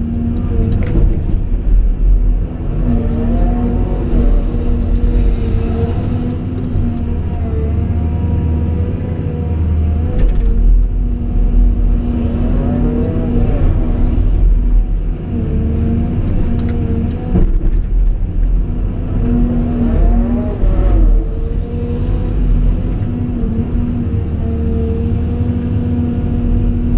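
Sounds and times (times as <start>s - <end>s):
diesel engine rumbling: 0.0s - 26.9s.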